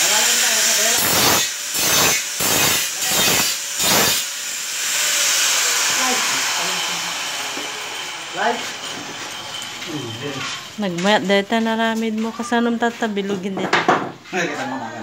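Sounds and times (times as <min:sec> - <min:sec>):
angle grinder high whine: 0:00.0 - 0:13.7
angle grinder cutting tile: 0:00.0 - 0:13.8.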